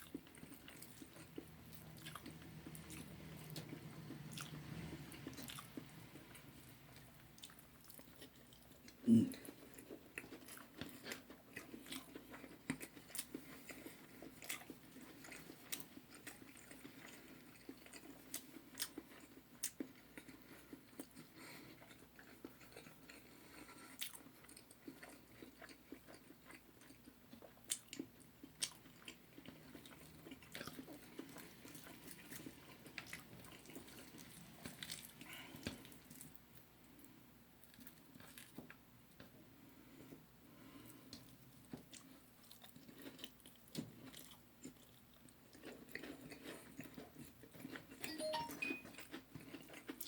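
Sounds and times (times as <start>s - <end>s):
chewing crispy fried chicken: 0.0s - 50.0s.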